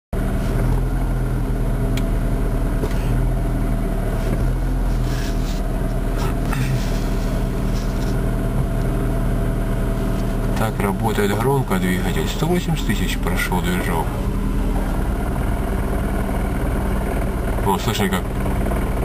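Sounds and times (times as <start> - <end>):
car engine idling with rattle: 0.2 - 19.0.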